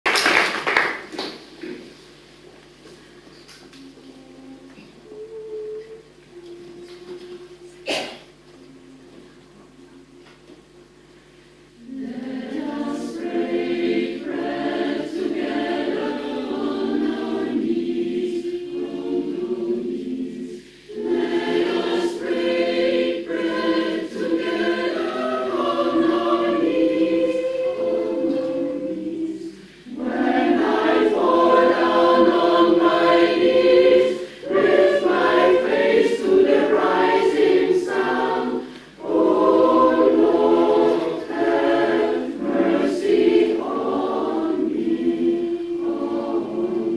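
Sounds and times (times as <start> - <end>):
mixed choir singing: 3.8 - 9.0, 11.8 - 46.9.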